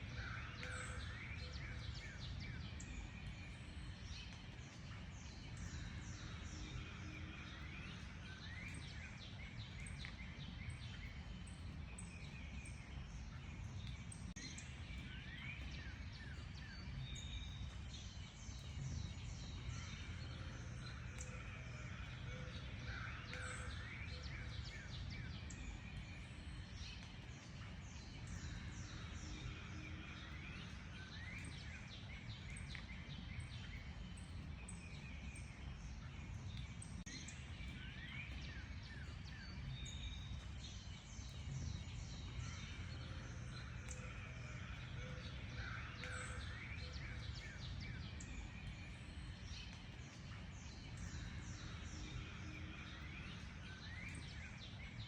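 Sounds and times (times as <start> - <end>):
birds chirping and singing: 0.0 - 36.0, 36.6 - 55.0.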